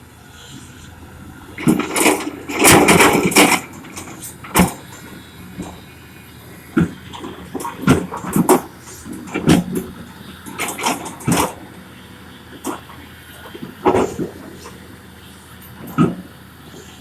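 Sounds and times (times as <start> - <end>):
excavator engine: 0.0 - 17.0
excavator clattering and knocking: 0.6 - 17.0.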